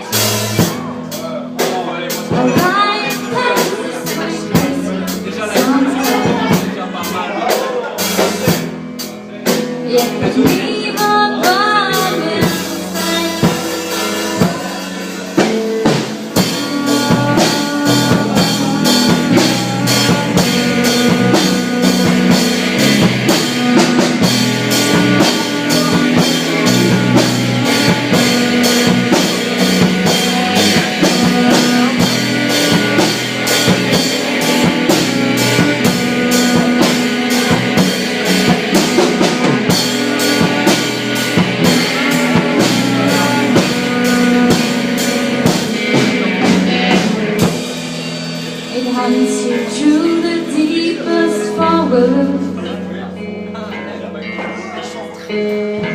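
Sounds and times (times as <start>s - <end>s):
driving drum beat: 0.0s - 51.9s
rock band playing live: 0.0s - 55.9s.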